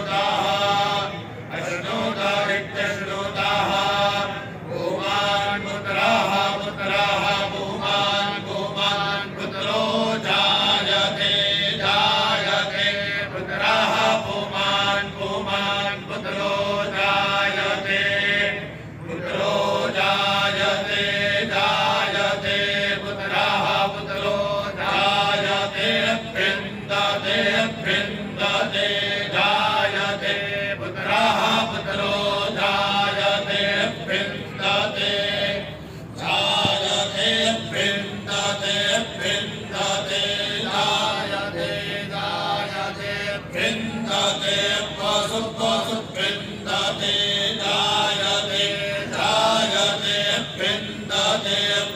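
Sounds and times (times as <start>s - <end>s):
men chanting in unison: 0.0s - 51.9s.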